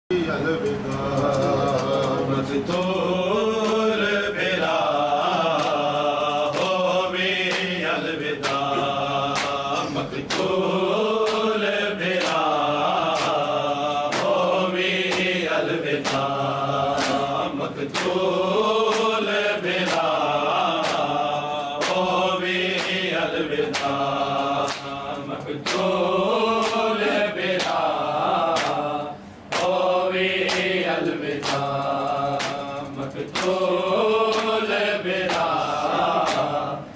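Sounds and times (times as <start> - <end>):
men chanting in unison: 0.2 - 36.9.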